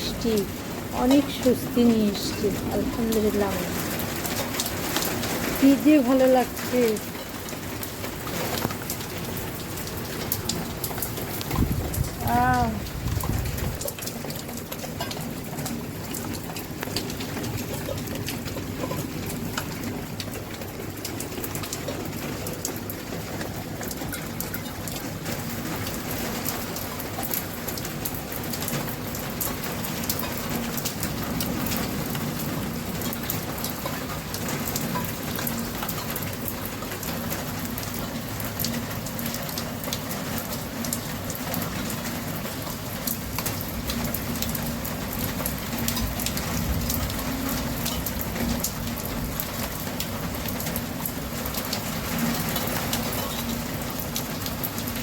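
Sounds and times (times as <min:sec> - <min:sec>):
heavy rain falling: 0:00.0 - 0:55.0
raindrops ticking on surfaces: 0:00.0 - 0:55.0.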